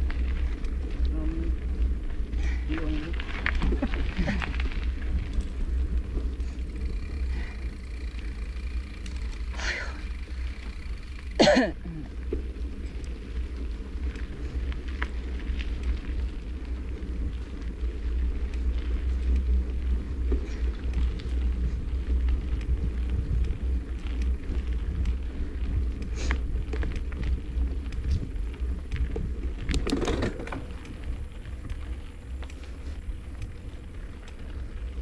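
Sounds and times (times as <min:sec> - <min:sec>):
bicycle clattering over bumps: 0:00.0 - 0:35.0
wind rumbling on microphone: 0:00.0 - 0:35.0.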